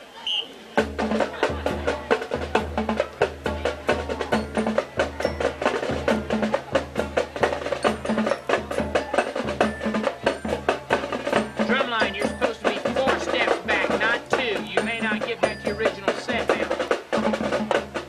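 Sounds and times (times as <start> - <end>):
bass drum beats: 0.8 - 18.0
marching band playing: 0.8 - 18.0
rapid snare drum strokes: 0.8 - 18.0.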